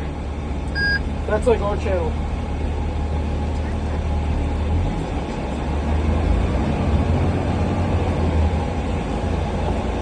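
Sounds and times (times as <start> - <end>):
low engine rumble: 0.0 - 10.0
road noise: 0.0 - 10.0.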